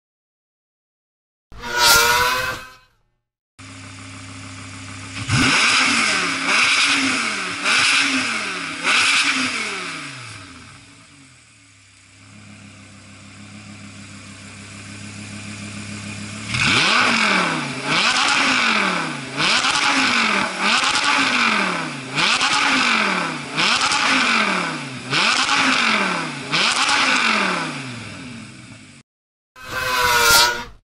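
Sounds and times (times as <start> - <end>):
sports car engine revving: 3.6 - 29.0.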